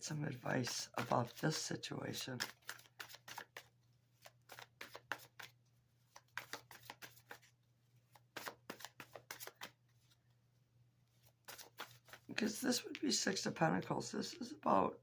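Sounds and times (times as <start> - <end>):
cards being shuffled: 0.6 - 10.2, 11.1 - 13.6.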